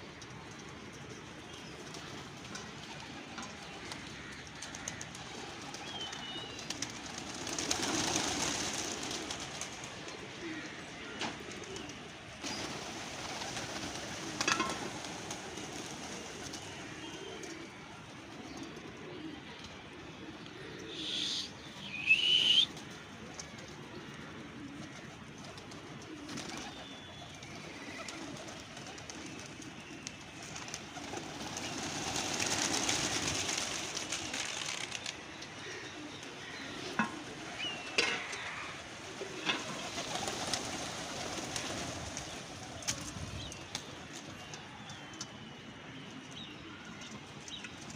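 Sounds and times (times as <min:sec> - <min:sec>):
pigeons cooing: 0:01.7 - 0:29.8, 0:30.7 - 0:44.0.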